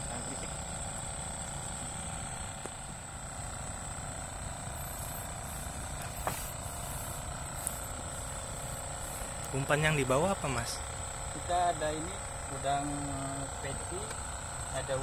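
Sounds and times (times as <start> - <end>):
outdoor background drone: 0.0 - 15.0
thin high whine: 0.0 - 15.0.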